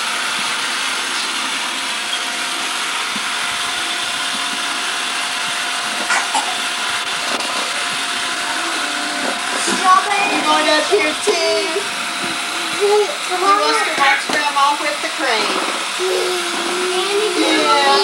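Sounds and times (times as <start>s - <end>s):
electric hand mixer whipping cream: 0.0s - 18.0s.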